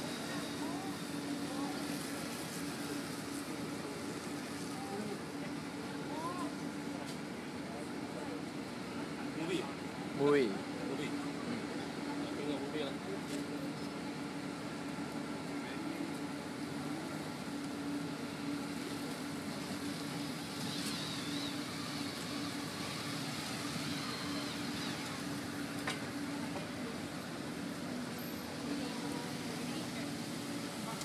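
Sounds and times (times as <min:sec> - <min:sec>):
traffic noise: 0:00.0 - 0:12.2, 0:13.1 - 0:31.0.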